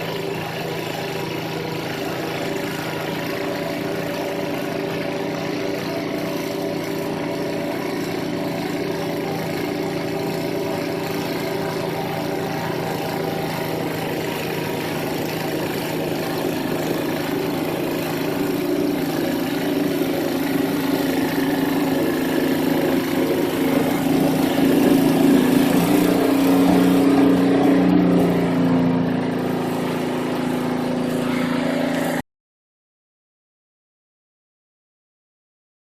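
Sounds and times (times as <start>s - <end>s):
snowblower engine running: 0.0s - 32.2s.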